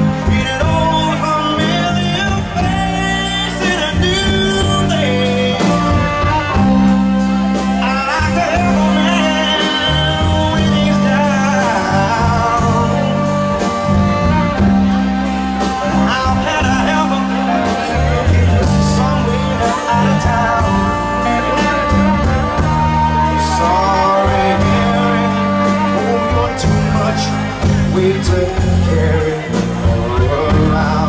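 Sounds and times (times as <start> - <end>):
bass: 0.0 - 31.0
guitar: 0.0 - 31.0
person singing: 0.0 - 31.0
steady drum beat: 0.0 - 31.0.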